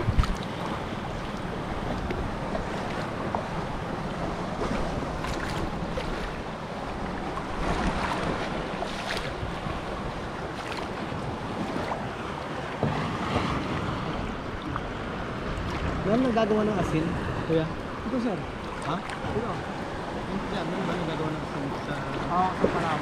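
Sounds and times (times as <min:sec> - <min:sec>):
paddle splashes: 0:00.0 - 0:23.0
sea water lapping: 0:00.0 - 0:23.0
wind buffeting microphone: 0:00.0 - 0:23.0.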